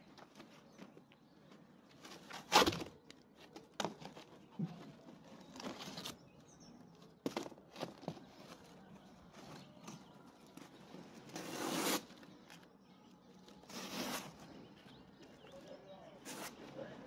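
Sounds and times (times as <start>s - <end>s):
rustling and scraping of garden work: 0.0s - 17.0s.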